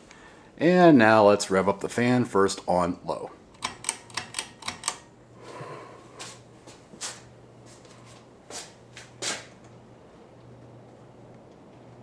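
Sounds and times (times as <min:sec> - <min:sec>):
ceiling fan motor hum: 0:00.0 - 0:12.0.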